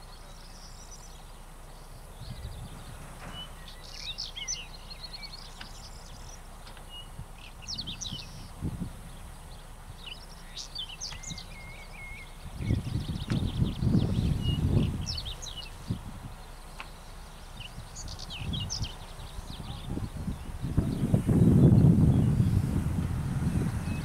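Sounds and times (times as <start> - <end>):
low steady rumble: 0.0 - 24.0
songbirds chirping: 0.0 - 24.0.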